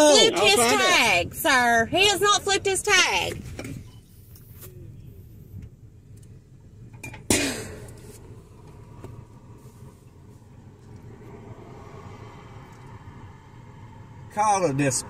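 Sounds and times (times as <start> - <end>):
vehicle engine idling: 1.3 - 7.0, 7.7 - 15.0.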